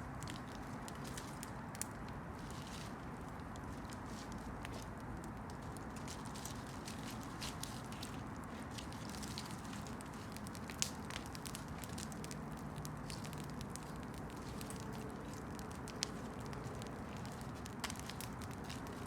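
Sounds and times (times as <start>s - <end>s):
burning wood crackling and popping: 0.0s - 19.0s
campfire flames rushing: 0.2s - 19.0s.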